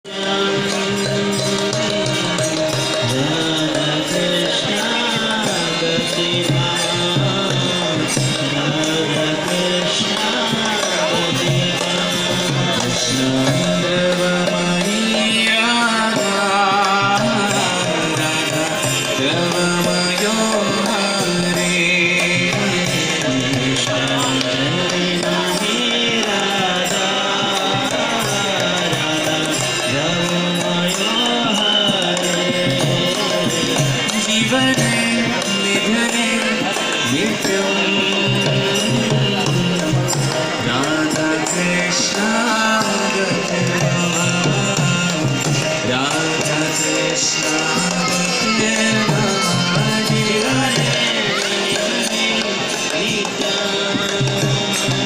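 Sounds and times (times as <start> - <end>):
chanted singing: 0.0 - 55.0
drum accompaniment: 0.0 - 55.0
jingling percussion: 0.0 - 55.0.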